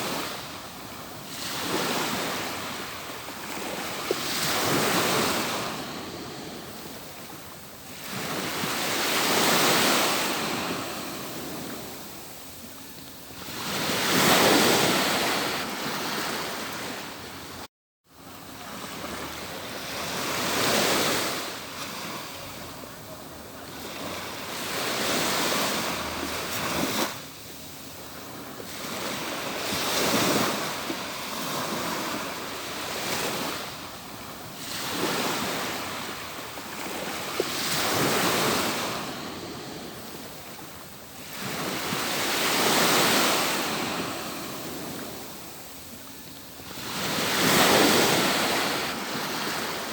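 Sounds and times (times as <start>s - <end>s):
ocean waves on a beach: 0.0s - 49.9s.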